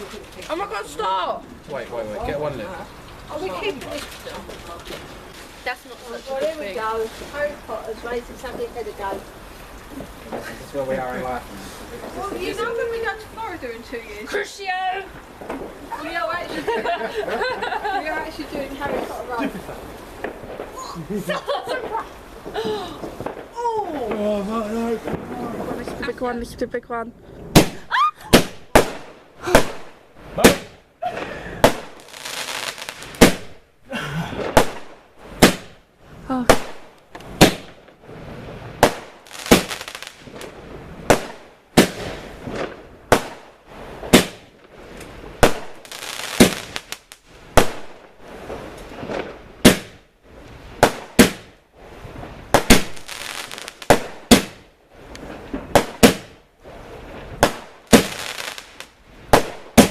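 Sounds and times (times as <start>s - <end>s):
firework bangs: 0.0s - 59.9s
firework crackle: 0.0s - 59.9s.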